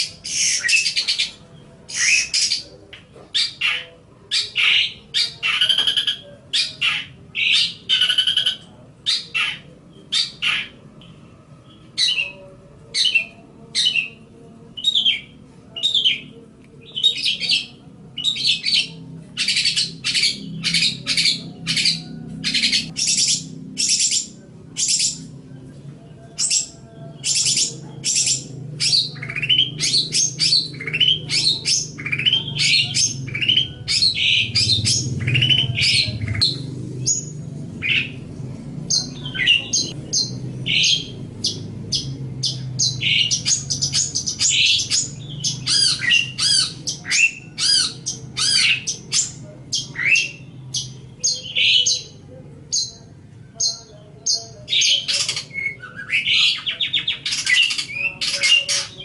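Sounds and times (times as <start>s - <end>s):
bird chattering and squawking: 0.0s - 10.8s, 14.8s - 25.3s, 26.4s - 38.2s, 38.9s - 53.0s, 53.6s - 59.0s.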